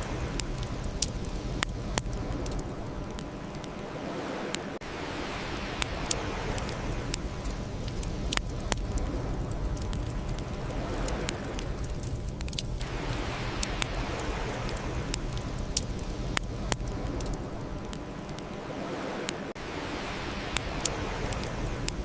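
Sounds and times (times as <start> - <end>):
burning wood crackling and popping: 0.0 - 22.0
low rumble of flames: 0.0 - 22.0.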